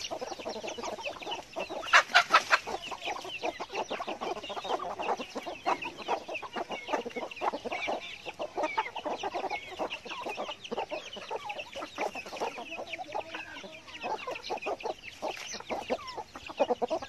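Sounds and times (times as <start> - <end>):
chicks peeping: 0.0 - 17.0
hens clucking: 0.0 - 17.0.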